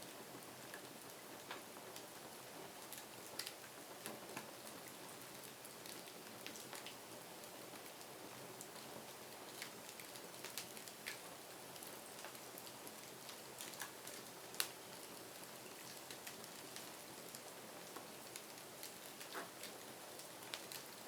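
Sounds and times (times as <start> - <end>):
soft steady hiss: 0.0 - 21.0.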